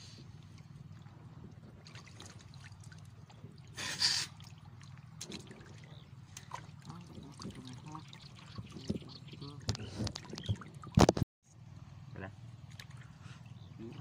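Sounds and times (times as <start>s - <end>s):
low steady hum: 0.0s - 14.0s
water dripping and splashing: 0.3s - 11.2s, 12.6s - 14.0s.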